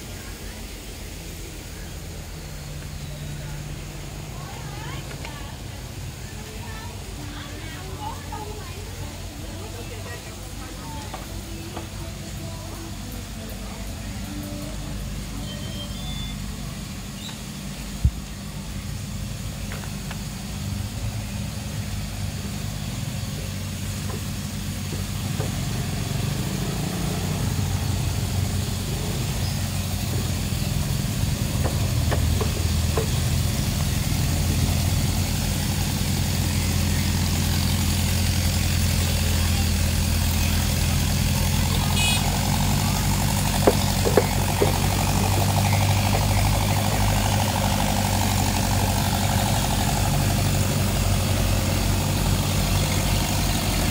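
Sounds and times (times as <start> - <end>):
pump engine droning: 0.0 - 53.9.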